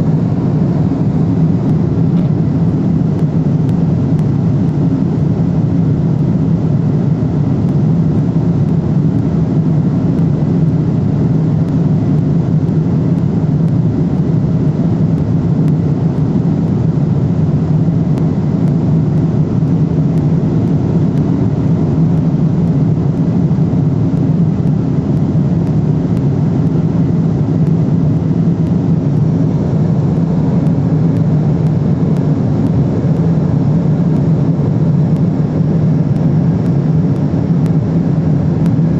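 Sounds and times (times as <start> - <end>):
air rushing along fuselage: 0.0 - 38.9
jet engine cabin hum: 0.0 - 38.9.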